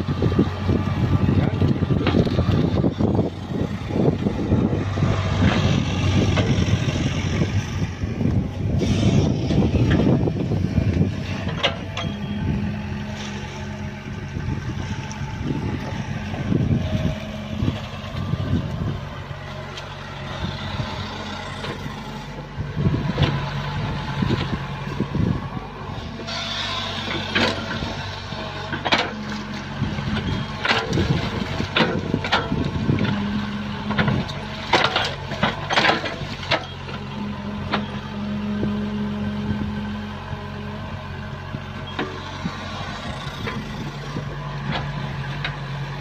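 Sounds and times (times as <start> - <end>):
excavator diesel engine: 0.0 - 46.0.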